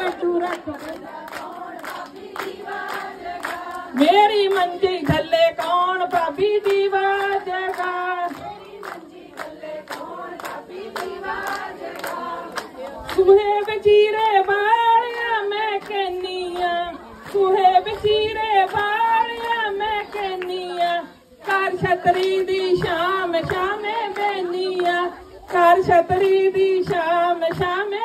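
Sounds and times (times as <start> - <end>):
hand clapping: 0.0 - 28.0
women singing folk song: 0.0 - 28.0.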